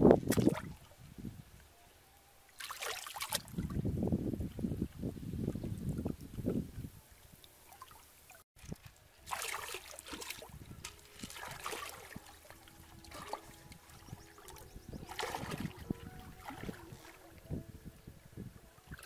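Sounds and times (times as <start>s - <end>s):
pond water sloshing and splashing: 0.1s - 1.8s, 2.4s - 3.9s, 5.5s - 19.0s.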